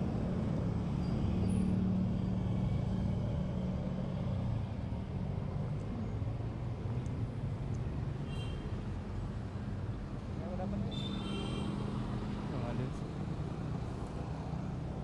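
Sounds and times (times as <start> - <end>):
traffic engines humming: 0.0 - 15.0.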